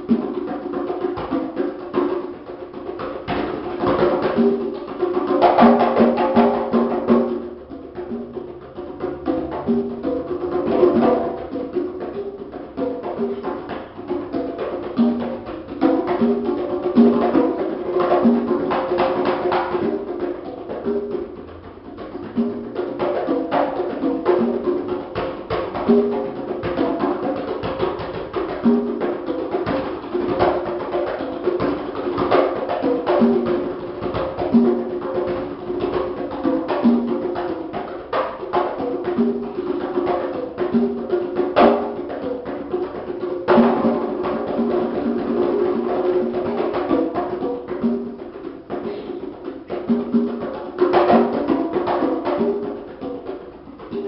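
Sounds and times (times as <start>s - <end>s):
congas played with hands: 0.0s - 54.0s.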